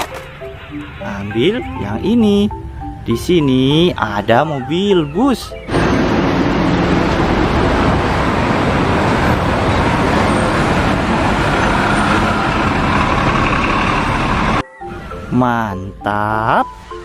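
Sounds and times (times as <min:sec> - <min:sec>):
bus engine running: 0:00.0 - 0:04.3, 0:05.0 - 0:14.6
road traffic noise: 0:00.0 - 0:15.3.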